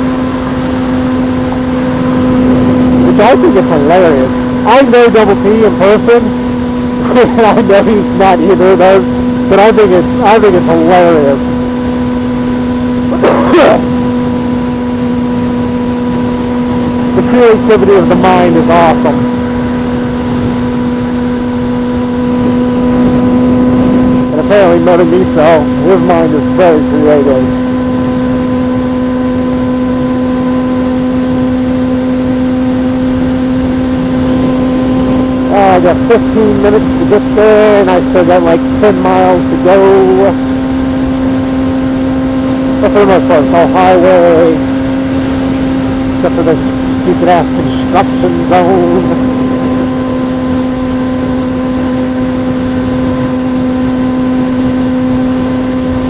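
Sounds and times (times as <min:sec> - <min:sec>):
engine hum: 0:00.0 - 0:56.0
road and wind noise: 0:00.0 - 0:56.0.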